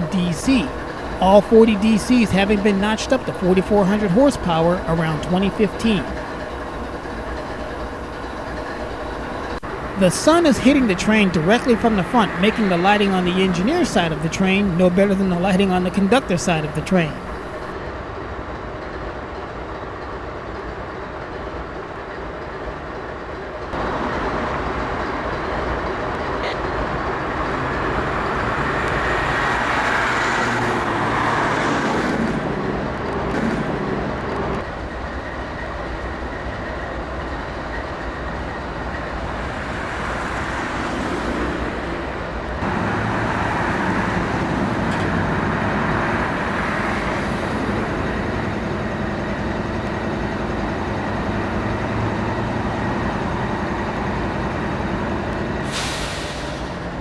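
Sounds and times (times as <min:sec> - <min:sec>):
diesel locomotive engines idling: 0:00.0 - 0:57.0.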